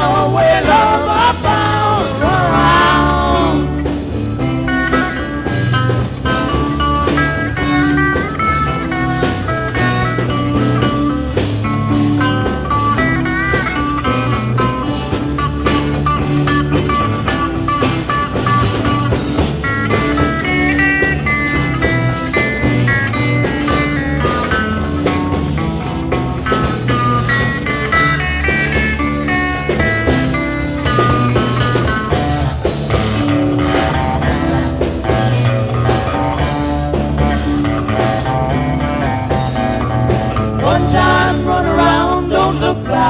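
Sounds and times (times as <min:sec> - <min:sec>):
bass guitar: 0:00.0 - 0:43.0
drums: 0:00.0 - 0:43.0
electric guitar lead: 0:00.0 - 0:43.0.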